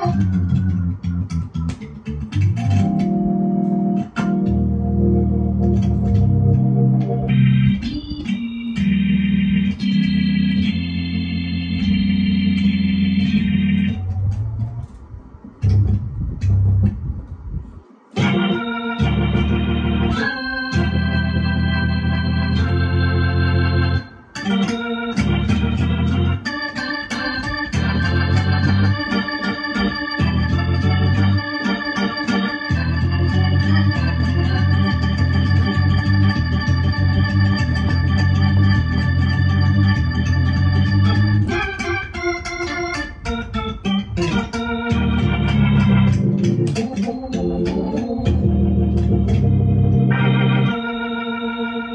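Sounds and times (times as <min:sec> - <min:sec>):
keyboard organ chords: 0:00.0 - 0:51.9.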